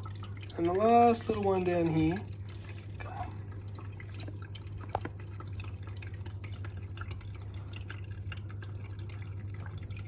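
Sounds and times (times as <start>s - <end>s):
low continuous hum: 0.0s - 10.0s
small waterfall trickling: 0.0s - 10.0s.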